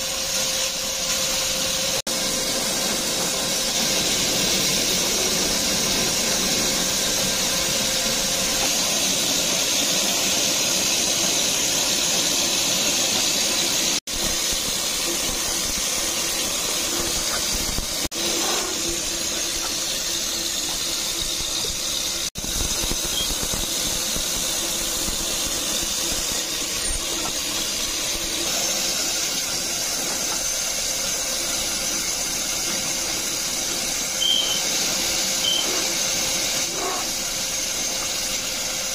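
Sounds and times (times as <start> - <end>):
cutting machine hiss and whine: 0.0 - 38.9.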